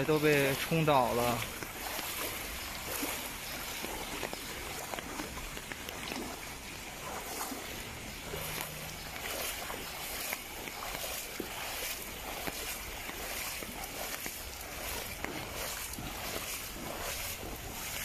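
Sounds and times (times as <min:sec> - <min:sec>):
feet wading through water: 0:00.0 - 0:18.0.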